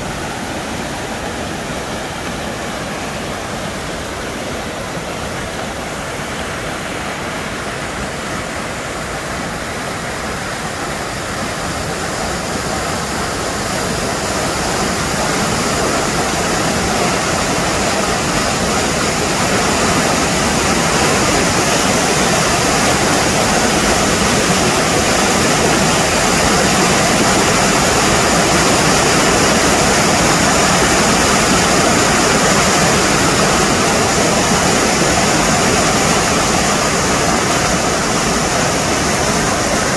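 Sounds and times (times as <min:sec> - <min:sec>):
water rushing over rock ledges: 0:00.0 - 0:39.9.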